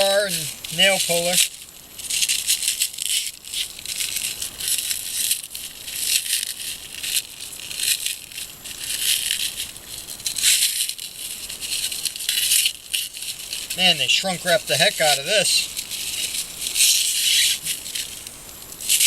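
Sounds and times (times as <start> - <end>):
plastic wrap tearing and crinkling: 1.4 - 13.8, 15.7 - 19.0.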